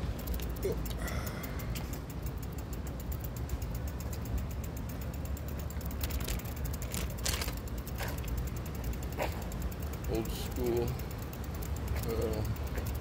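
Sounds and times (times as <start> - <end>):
bicycle freewheel ticking: 0.0 - 13.0
sharp clicks: 0.0 - 13.0
wind and tyre rumble: 0.0 - 13.0.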